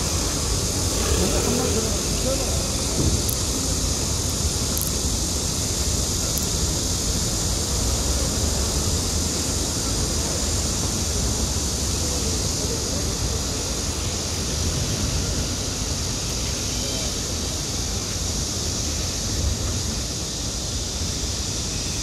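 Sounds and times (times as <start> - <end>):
electric train rolling: 0.0 - 22.0.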